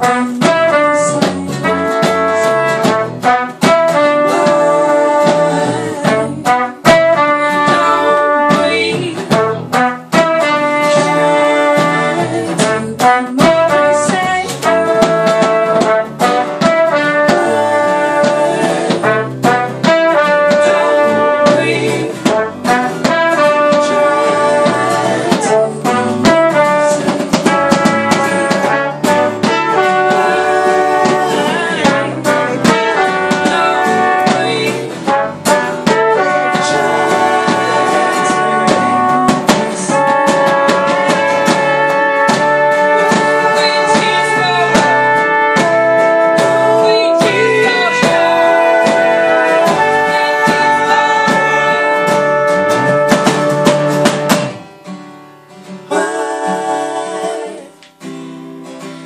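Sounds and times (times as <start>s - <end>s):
several voices singing: 0.0s - 53.0s, 55.8s - 57.8s
trombone: 0.0s - 54.6s
trumpet: 0.0s - 55.0s
acoustic guitars strummed: 0.0s - 59.0s.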